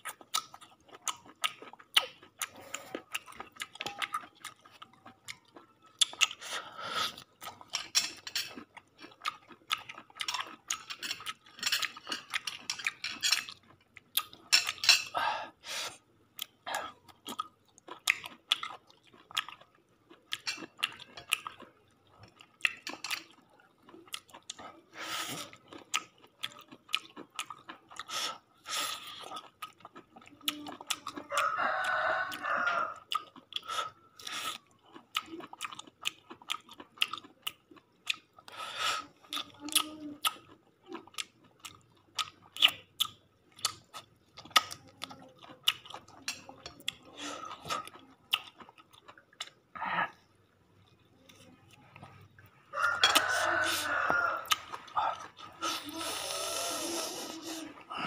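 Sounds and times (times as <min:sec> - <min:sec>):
chewing and lip-smacking: 0:00.0 - 0:14.8, 0:15.9 - 0:49.7, 0:50.8 - 0:58.0.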